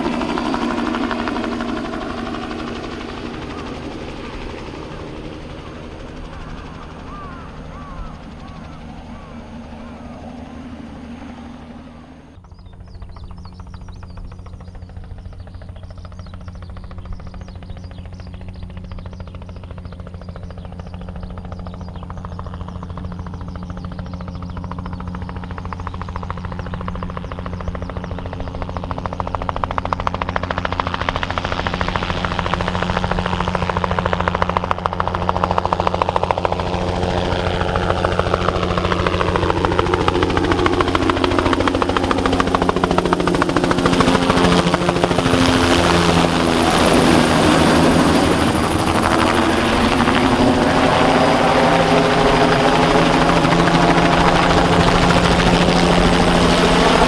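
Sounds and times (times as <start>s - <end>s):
helicopter rotor beating: 0.0s - 57.0s
turbine engine whine: 0.0s - 57.0s.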